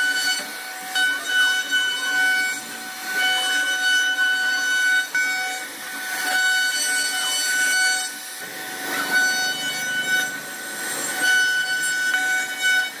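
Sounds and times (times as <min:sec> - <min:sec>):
cutter hissing through wood: 0:00.0 - 0:13.0
router spindle whine: 0:00.0 - 0:13.0.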